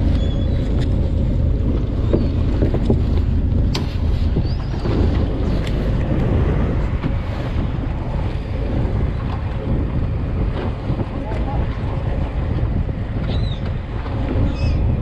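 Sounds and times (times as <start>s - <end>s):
sea and boat noise: 0.0s - 15.0s
wind buffeting microphone: 0.0s - 15.0s.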